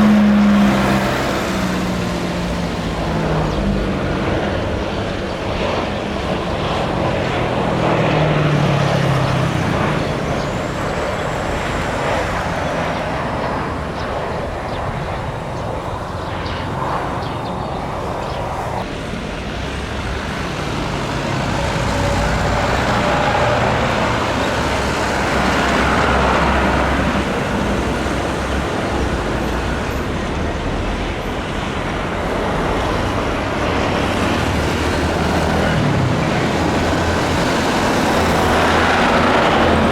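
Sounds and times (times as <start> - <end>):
loud engine and traffic noise: 0.0 - 39.9.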